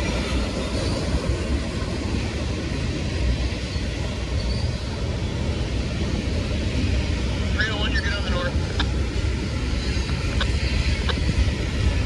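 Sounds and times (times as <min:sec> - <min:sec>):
freight train cars rumbling past: 0:00.0 - 0:12.0.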